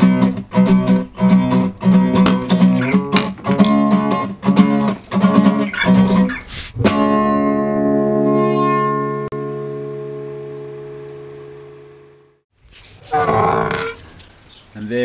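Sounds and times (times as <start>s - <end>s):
guitar strumming: 0.0s - 12.4s.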